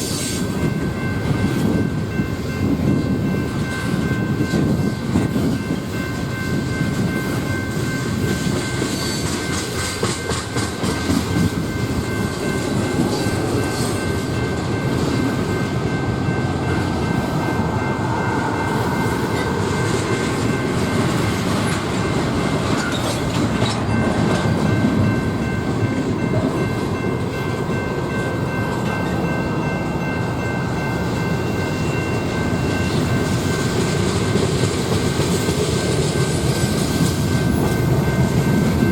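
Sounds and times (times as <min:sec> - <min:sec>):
train wheels clacking on rails: 0:00.0 - 0:38.9.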